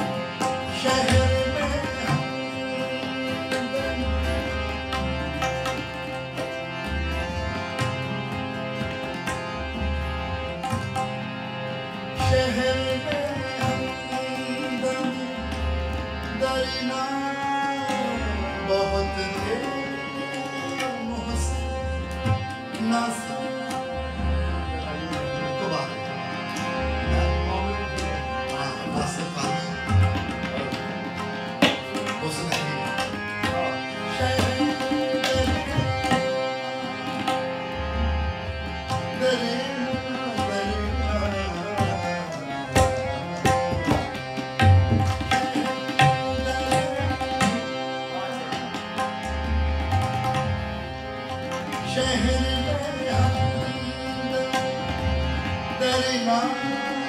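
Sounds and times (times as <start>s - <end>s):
tabla rhythm with bass strokes: 0.0s - 57.0s.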